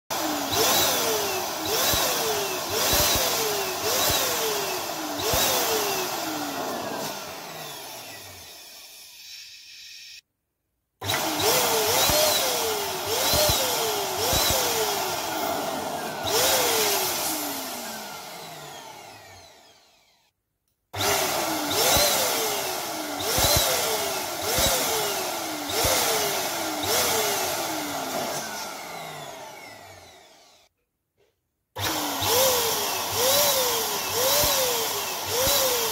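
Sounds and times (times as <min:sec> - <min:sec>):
electric balloon pump running: 0:00.1 - 0:10.2, 0:11.0 - 0:20.4, 0:21.0 - 0:30.7, 0:31.8 - 0:35.9.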